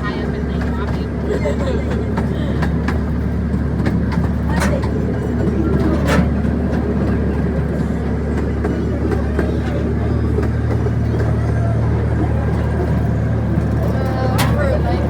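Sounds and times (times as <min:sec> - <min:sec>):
train engine drone: 0:00.0 - 0:15.0
wheels clacking on track: 0:00.0 - 0:15.0.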